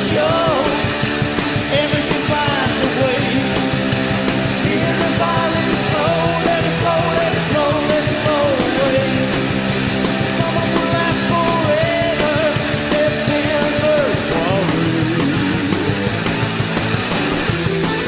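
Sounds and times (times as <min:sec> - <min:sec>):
rock band playing live: 0:00.0 - 0:18.0.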